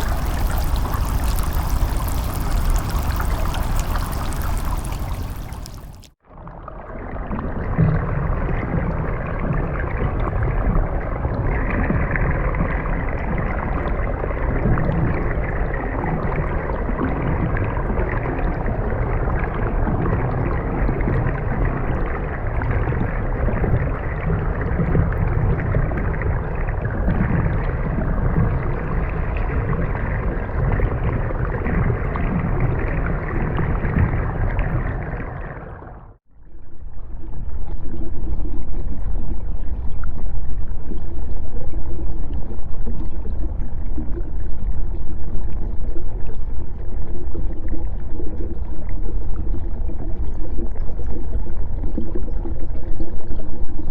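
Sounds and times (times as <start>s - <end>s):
dark underwater sewer ambience: 0.0s - 53.9s
muffled underwater water rush: 0.0s - 53.9s.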